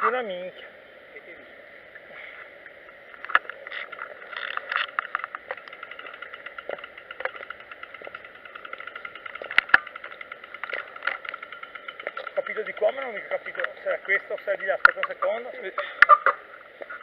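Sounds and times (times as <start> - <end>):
motor trike riding hum: 0.7 - 17.0.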